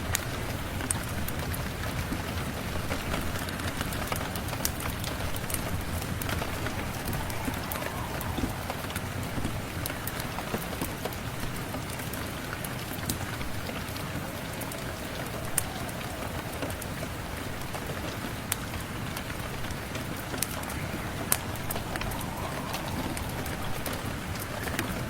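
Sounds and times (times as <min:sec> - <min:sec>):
steady rain hissing: 0:00.0 - 0:25.0.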